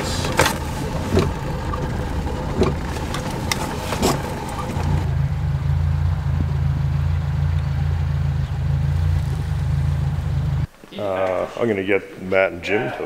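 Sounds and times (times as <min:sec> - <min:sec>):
car engine from inside cabin: 0:00.0 - 0:10.7
windshield wipers sweeping: 0:00.0 - 0:10.7.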